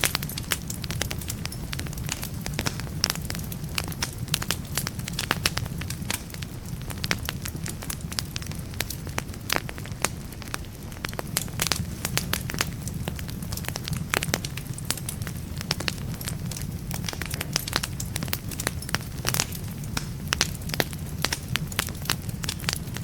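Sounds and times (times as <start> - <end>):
logs crackling and popping: 0.0 - 23.0
low rumble of flame: 0.0 - 23.0.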